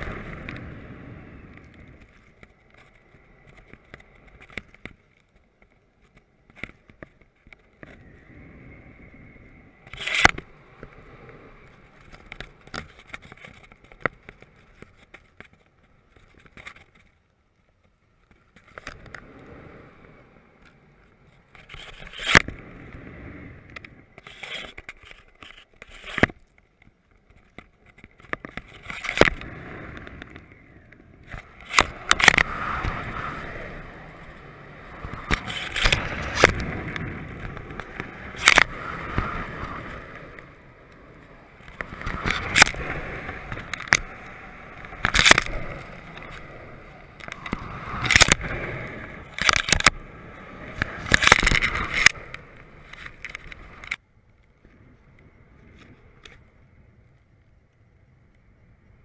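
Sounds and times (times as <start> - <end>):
kite rig cracks and rattles: 0.0 - 59.0
wind rushing over camera: 0.0 - 59.0.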